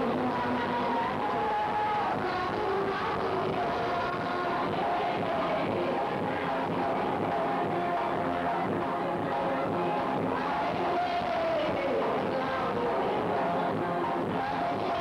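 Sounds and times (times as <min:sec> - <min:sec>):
group of women singing: 0:00.0 - 0:15.0
woman singing into microphone: 0:00.0 - 0:15.0.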